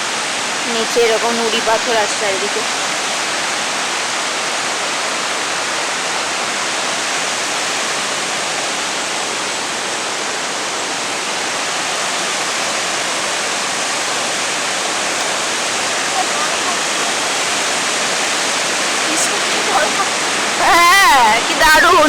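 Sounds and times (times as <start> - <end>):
waterfall rushing over rocks: 0.0 - 22.0.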